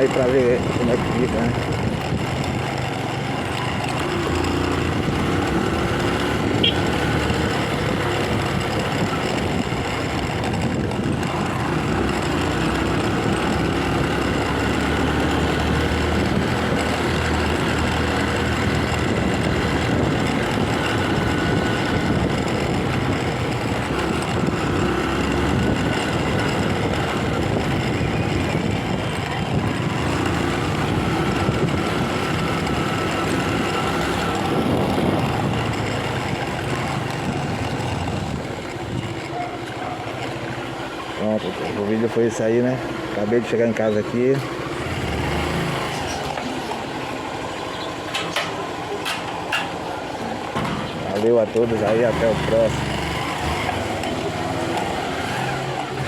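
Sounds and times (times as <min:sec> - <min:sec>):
motorcycle engine running: 0:00.0 - 0:56.0
road noise: 0:00.0 - 0:56.0
rattle over paving stones: 0:00.1 - 0:06.0, 0:07.0 - 0:42.0, 0:44.2 - 0:56.0.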